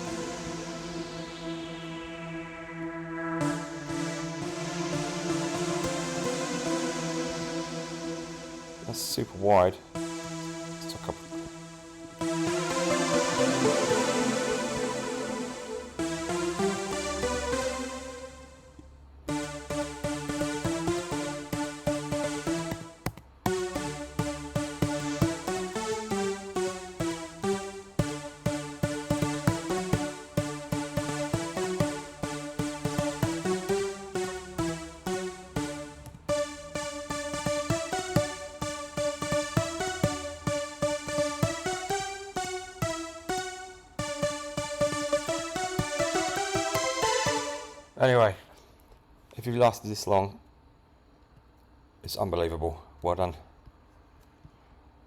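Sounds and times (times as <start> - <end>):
square-wave synthesizer melody: 0.0 - 48.0.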